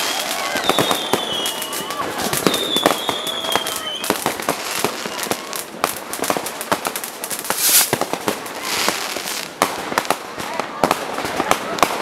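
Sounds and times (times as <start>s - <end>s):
loud rushing firework burst: 0.0s - 10.3s
fireworks and firecrackers bangs: 0.0s - 12.0s.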